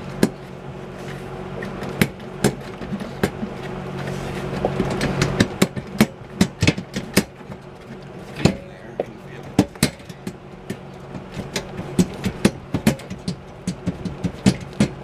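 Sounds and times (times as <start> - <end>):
fan blade clicking and knocking: 0.0 - 0.5, 1.5 - 15.0.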